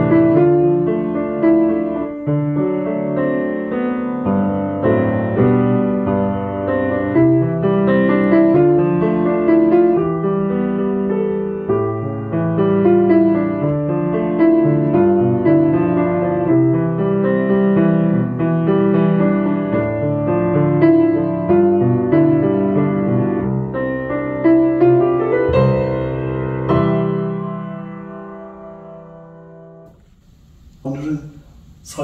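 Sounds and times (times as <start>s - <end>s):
piano playing chords: 0.0s - 30.0s.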